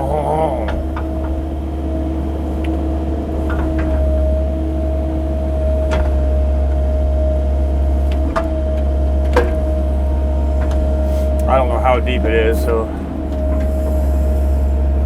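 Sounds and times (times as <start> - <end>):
engine whine: 0.0 - 15.0
excavator diesel engine: 0.0 - 15.0.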